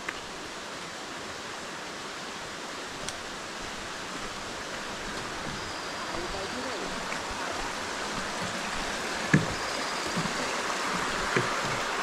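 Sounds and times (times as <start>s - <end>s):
forest stream rushing: 0.0s - 12.0s.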